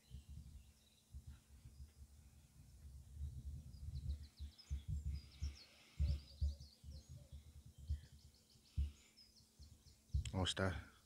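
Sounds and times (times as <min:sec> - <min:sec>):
wind buffeting microphone: 0:00.0 - 0:09.0
small birds chirping: 0:00.0 - 0:11.0.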